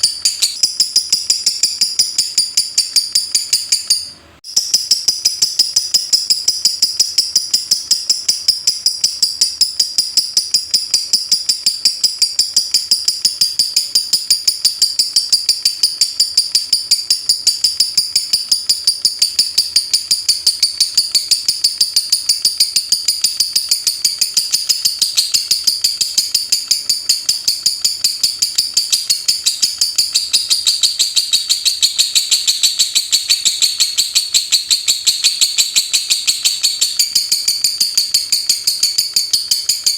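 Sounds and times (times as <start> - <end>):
bird ticking chatter: 0.0 - 39.9.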